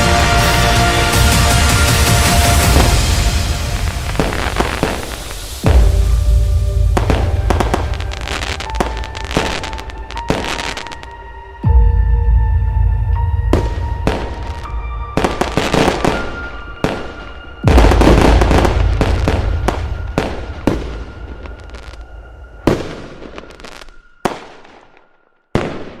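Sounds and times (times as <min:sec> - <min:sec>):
fireworks bursting with crackles: 0:00.0 - 0:06.2, 0:06.9 - 0:11.1, 0:13.5 - 0:26.0
cinematic music: 0:00.0 - 0:26.0.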